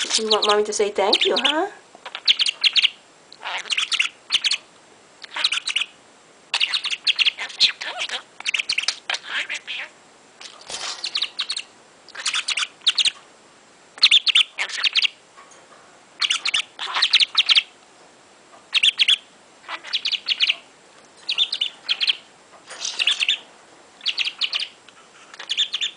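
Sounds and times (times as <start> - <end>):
budgerigar chirping: 0.0 - 13.2, 14.0 - 15.2, 16.2 - 17.8, 18.7 - 25.9.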